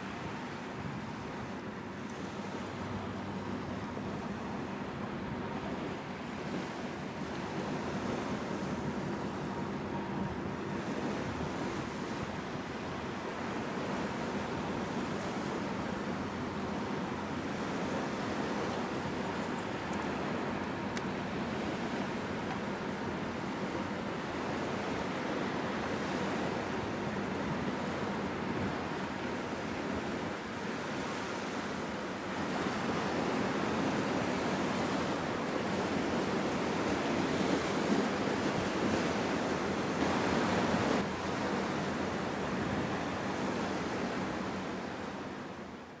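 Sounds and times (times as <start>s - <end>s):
river water on shore: 0.0s - 46.0s
wind: 0.0s - 46.0s.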